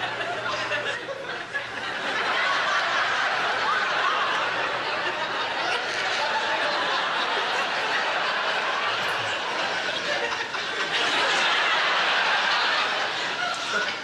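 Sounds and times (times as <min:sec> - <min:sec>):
audience laughing: 0:00.0 - 0:14.0.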